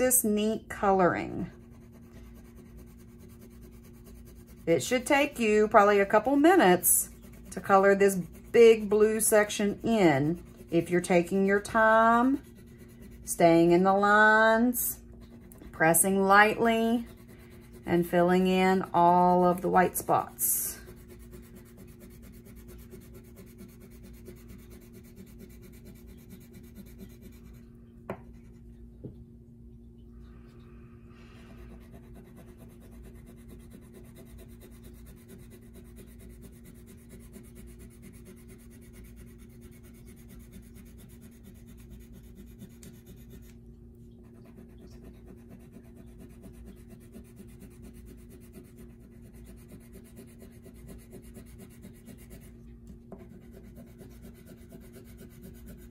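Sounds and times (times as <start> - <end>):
wax crayon scribbling on paper: 0.0 - 27.6, 31.6 - 43.6, 44.3 - 52.5, 53.2 - 55.9.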